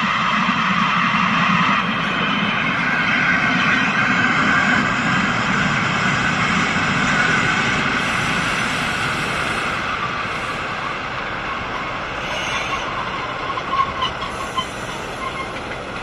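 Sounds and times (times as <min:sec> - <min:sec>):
diesel railcar engine drone: 0:00.0 - 0:16.0.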